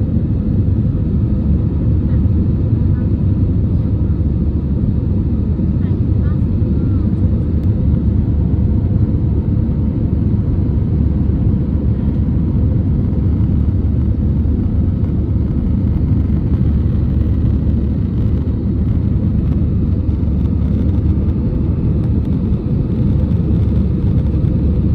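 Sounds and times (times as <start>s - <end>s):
jet engines rumbling in cabin: 0.0s - 24.9s.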